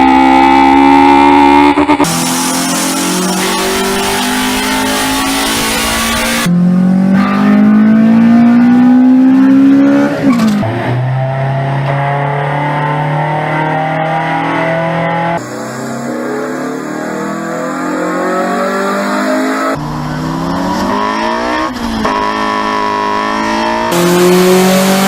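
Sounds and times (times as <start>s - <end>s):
car engine revving high: 0.0s - 25.0s.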